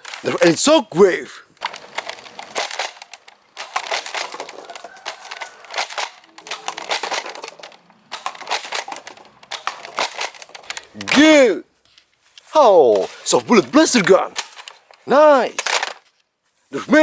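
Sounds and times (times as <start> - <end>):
plastic toys clicking and clattering: 0.0 - 16.2.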